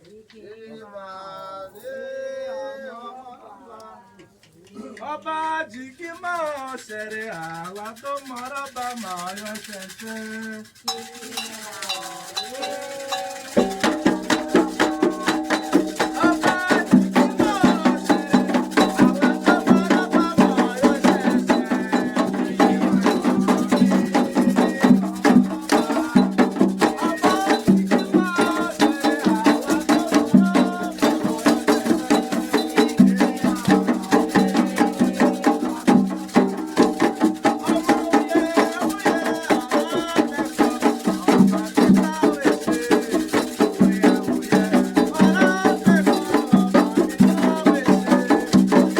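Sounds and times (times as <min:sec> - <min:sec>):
voices chanting: 0:00.0 - 0:05.7, 0:10.9 - 0:48.9
shaker rattles: 0:05.1 - 0:48.9
hand drums playing fast rhythm: 0:06.4 - 0:48.9.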